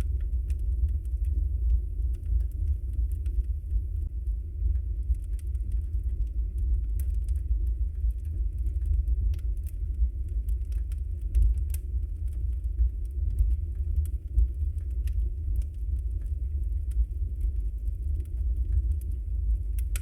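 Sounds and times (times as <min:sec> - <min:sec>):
fire crackles and pops: 0:00.0 - 0:20.0
low rumble of flames: 0:00.0 - 0:20.0.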